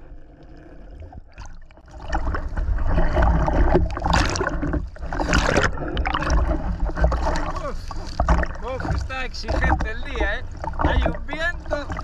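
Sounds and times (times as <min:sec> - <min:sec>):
choppy sea slapping and sloshing: 0:01.1 - 0:12.0
waves splashing over camera: 0:01.2 - 0:12.0.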